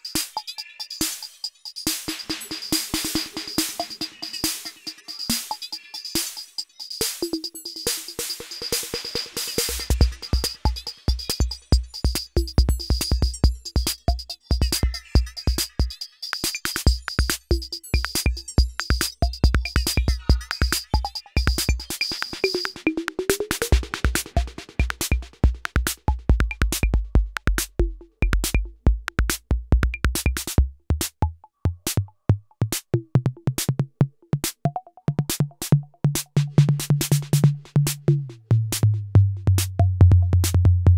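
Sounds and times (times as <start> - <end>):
electronic drum machine beat: 1.1 - 40.9.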